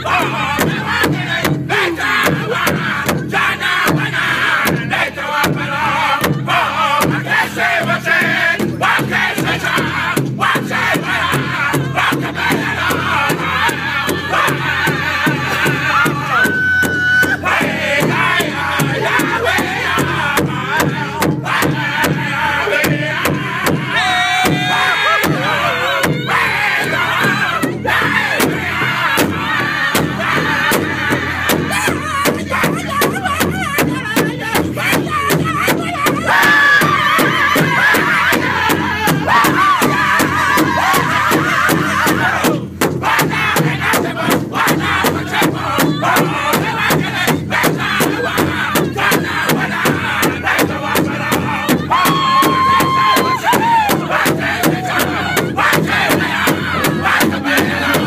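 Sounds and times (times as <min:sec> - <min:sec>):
group singing in high voices: 0:00.0 - 0:58.0
large drum beating: 0:00.0 - 0:58.0.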